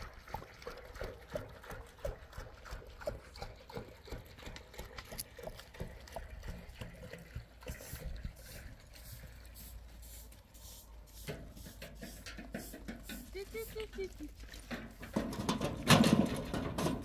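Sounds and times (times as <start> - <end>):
goats lapping and slurping water: 0.0 - 17.0.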